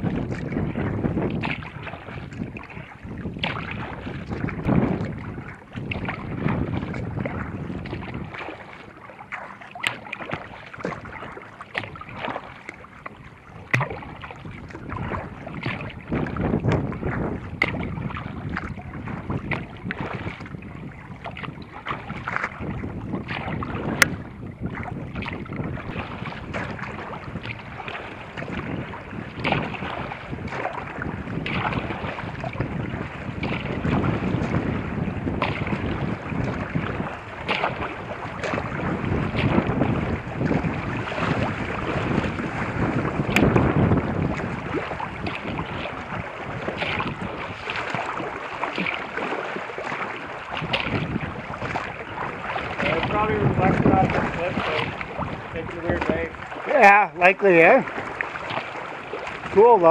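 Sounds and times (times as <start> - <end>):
wind buffeting microphone: 0.0 - 9.0, 9.8 - 59.9
water splashing against kayak hull: 0.0 - 59.9.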